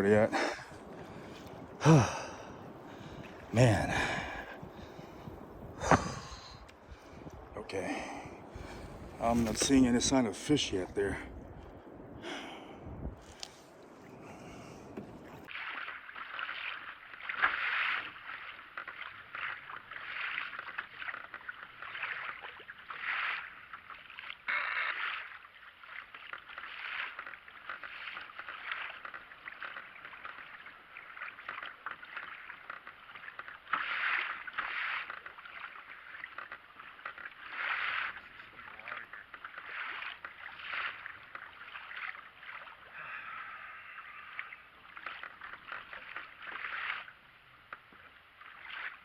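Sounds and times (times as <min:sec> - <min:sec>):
water splashing against kayak: 0:00.0 - 0:49.0.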